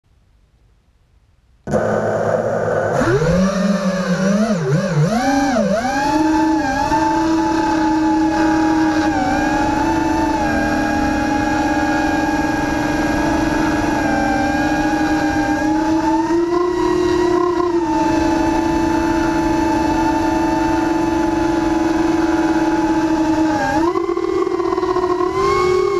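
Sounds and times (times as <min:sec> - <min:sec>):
drone motors whining: 0:01.7 - 0:25.9.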